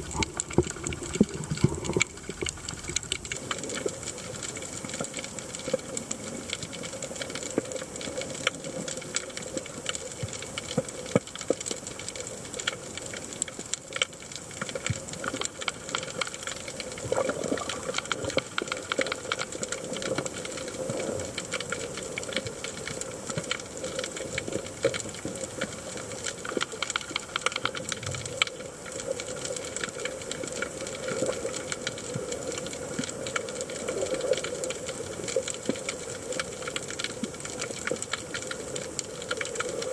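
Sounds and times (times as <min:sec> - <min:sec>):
underwater crackle of clicks: 0:00.0 - 0:39.9.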